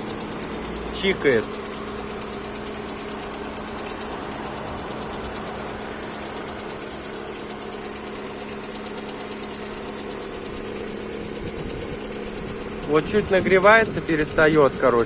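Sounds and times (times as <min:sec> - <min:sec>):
car engine idling: 0:00.0 - 0:15.0
fast light engine ticking: 0:00.0 - 0:15.0.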